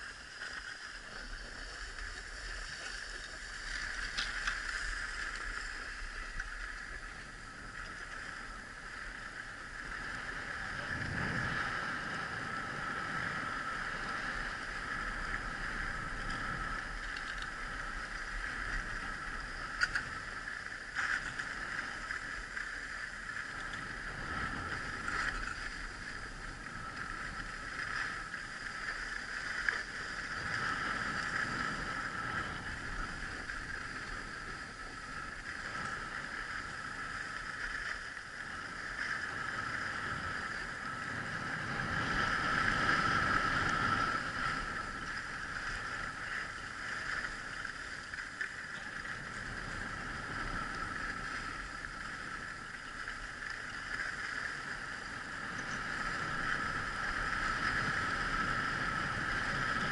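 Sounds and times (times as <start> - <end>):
low rumble of wind: 0.0 - 59.9.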